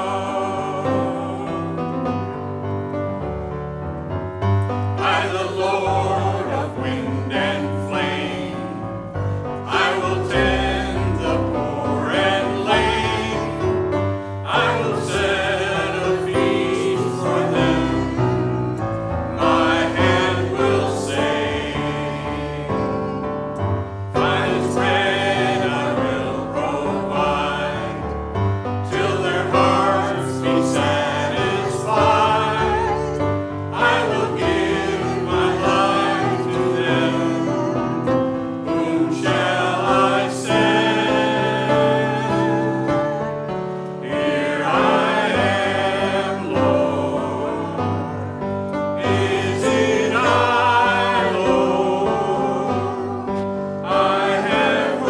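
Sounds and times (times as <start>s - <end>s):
voices singing a hymn: 0.0s - 3.2s, 4.6s - 55.0s
sustained accompaniment: 0.0s - 55.0s.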